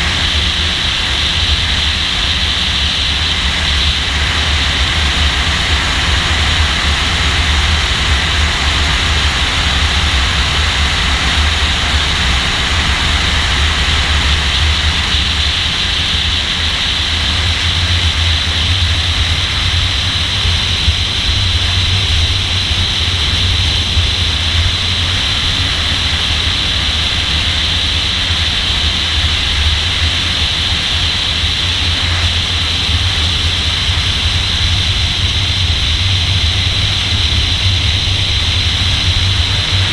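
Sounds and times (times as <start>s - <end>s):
car driving at speed: 0.0s - 39.9s.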